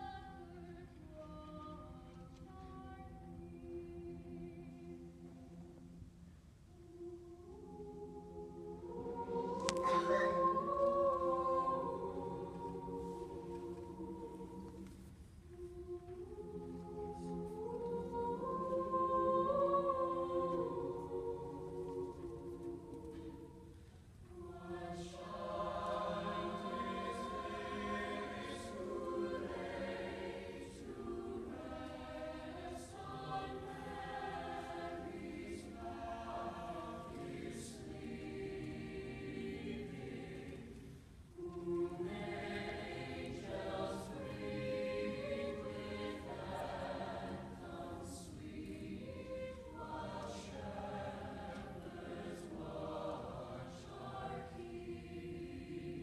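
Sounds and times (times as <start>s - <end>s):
mixed choir singing: 0.0s - 6.0s, 6.8s - 56.0s.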